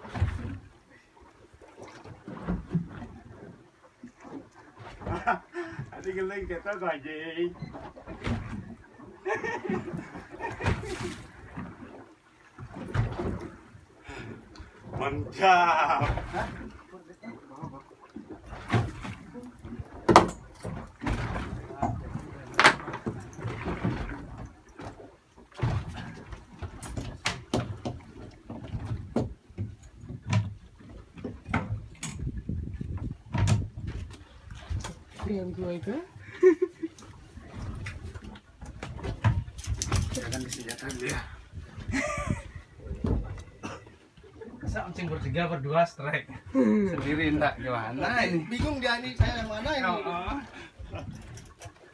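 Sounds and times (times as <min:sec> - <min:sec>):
water splashing around boat: 0:00.0 - 0:51.9.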